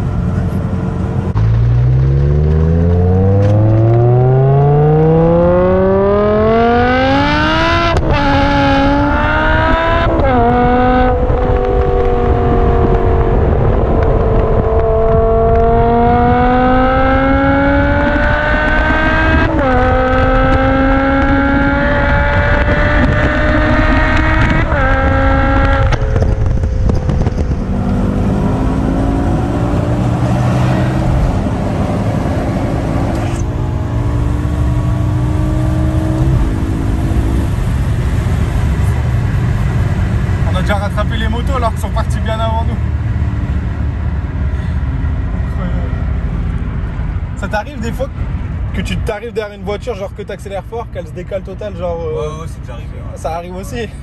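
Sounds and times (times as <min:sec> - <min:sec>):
car engine accelerating hard: 0:00.0 - 0:49.1.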